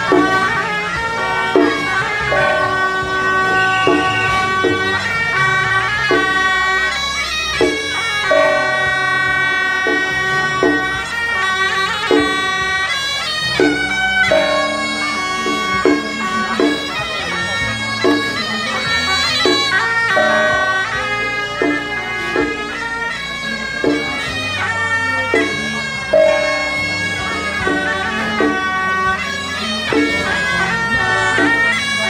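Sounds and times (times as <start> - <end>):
percussion strikes: 0.0 - 32.0
shrill reed horns: 0.0 - 32.0.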